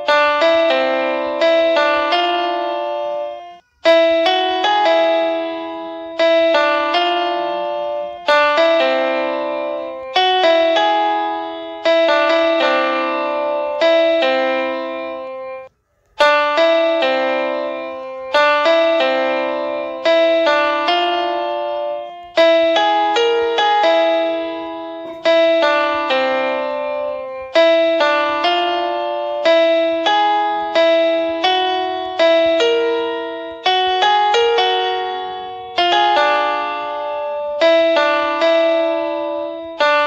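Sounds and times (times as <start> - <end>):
piano-like keyboard melody: 0.0 - 40.0.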